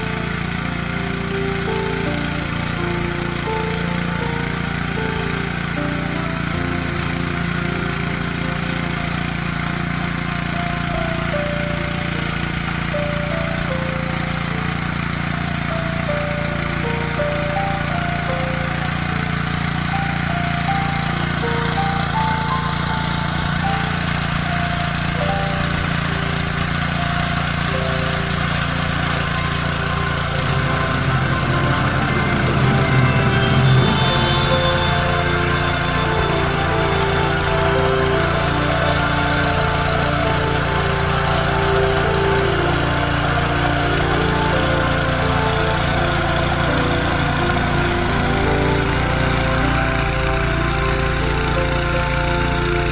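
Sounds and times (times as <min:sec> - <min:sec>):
tiller petrol engine running: 0:00.0 - 0:52.9.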